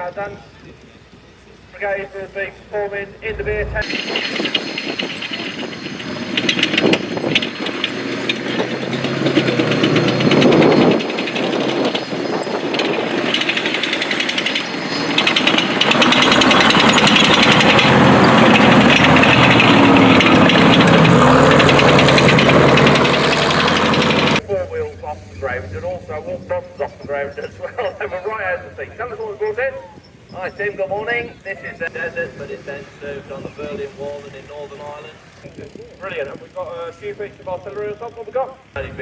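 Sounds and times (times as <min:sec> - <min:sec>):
heavy vehicle engine rattling: 0:00.1 - 0:39.0.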